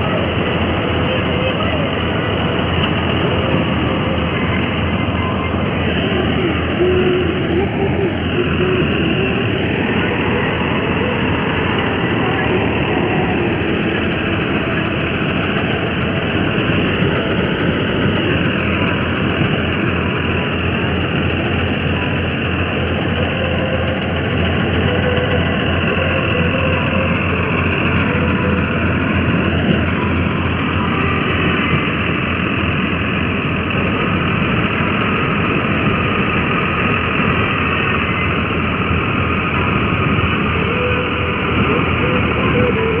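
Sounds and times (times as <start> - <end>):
combine harvester running: 0.0 - 43.0.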